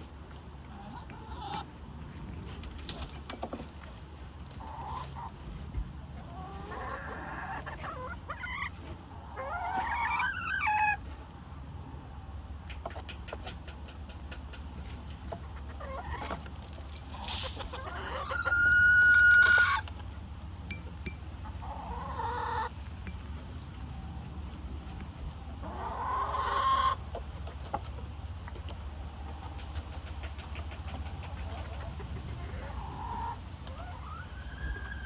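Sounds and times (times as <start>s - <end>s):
chickens clucking and calling: 0.0s - 35.0s.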